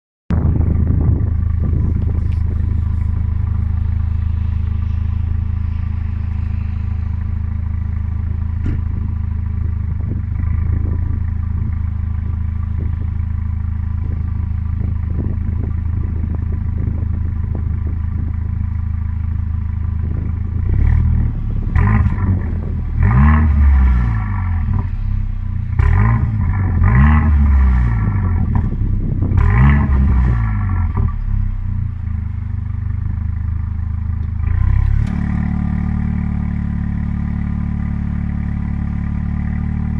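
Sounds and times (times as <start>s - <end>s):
car engine idling and revving: 0.3s - 39.9s
exhaust crackles: 0.3s - 39.9s.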